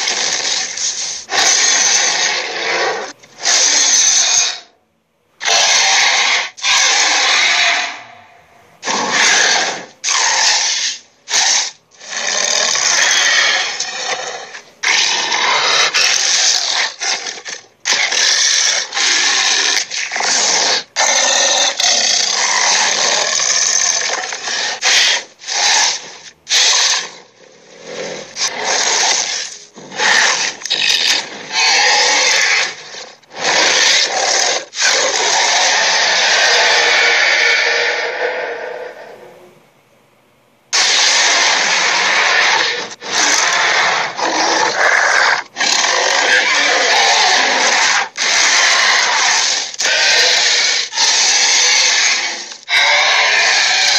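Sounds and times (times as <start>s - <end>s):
creature growling and roaring: 0.0s - 4.7s, 5.4s - 8.2s, 8.8s - 39.5s, 40.7s - 53.9s.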